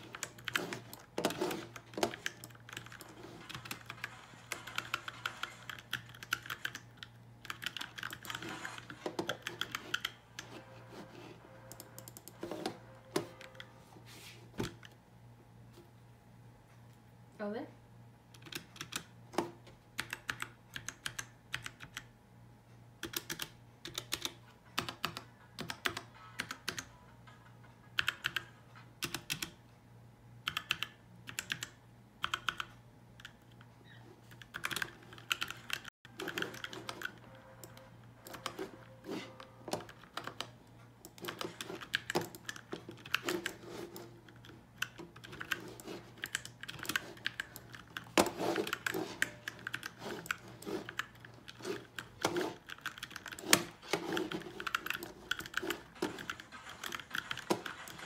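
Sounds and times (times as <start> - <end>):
mechanical keyboard typing: 0.0 - 10.5, 11.6 - 13.7, 18.4 - 19.1, 20.0 - 22.1, 23.0 - 26.9, 28.0 - 29.6, 30.4 - 33.5, 34.3 - 58.0.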